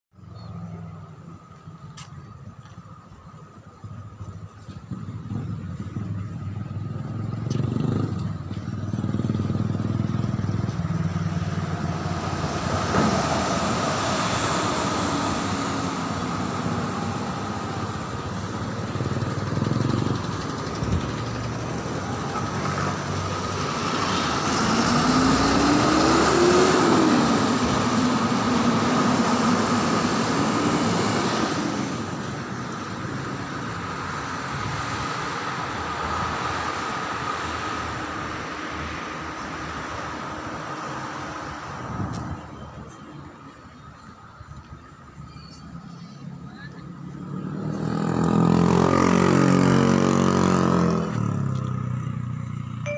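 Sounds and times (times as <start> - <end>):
traffic passing: 0.2 - 52.9
engine passing by: 4.7 - 42.5, 45.7 - 52.9.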